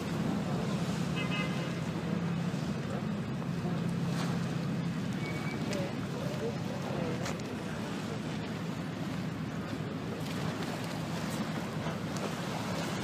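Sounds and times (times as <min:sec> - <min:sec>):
sea splashing against rocks: 0:00.0 - 0:13.0.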